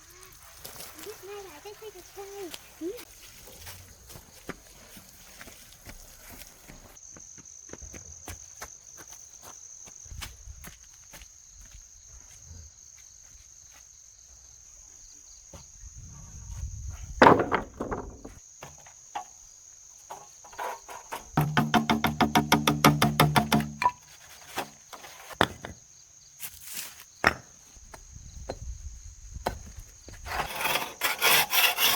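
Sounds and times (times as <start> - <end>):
insects trilling: 0.0 - 17.1, 18.2 - 31.9.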